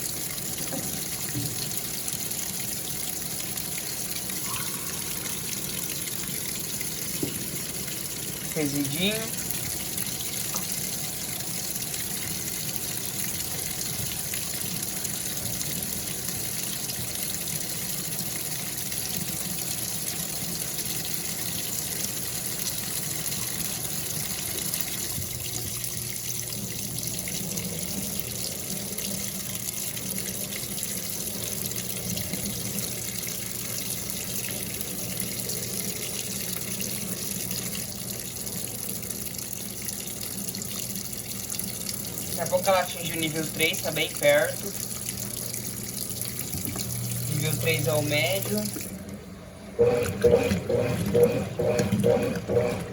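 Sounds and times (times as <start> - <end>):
tap water running into tub: 0.0 - 52.9.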